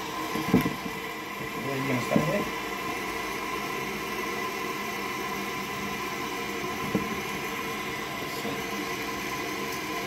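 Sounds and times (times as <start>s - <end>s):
toilet cistern filling hiss: 0.0s - 10.0s.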